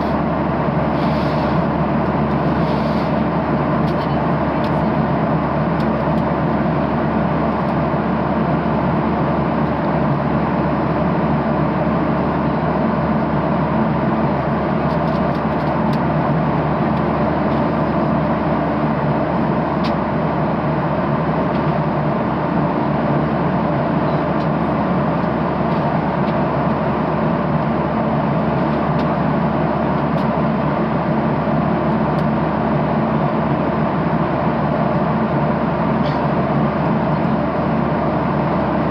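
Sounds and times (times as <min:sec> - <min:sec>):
airplane cabin noise: 0:00.0 - 0:38.9.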